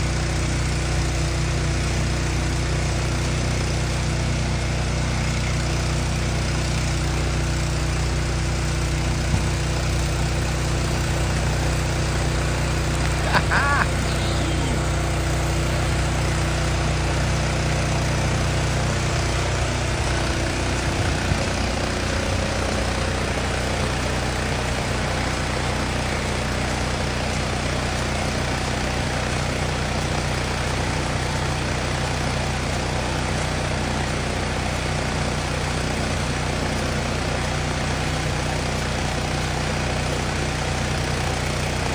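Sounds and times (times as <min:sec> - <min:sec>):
fire pump engine hum: 0:00.0 - 0:41.9.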